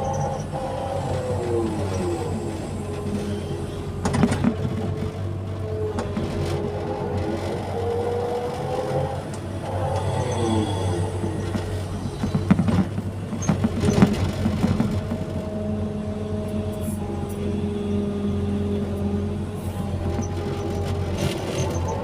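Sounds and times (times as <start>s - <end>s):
excavator diesel engine drone: 0.0s - 22.0s
hydraulic whine: 0.0s - 22.0s.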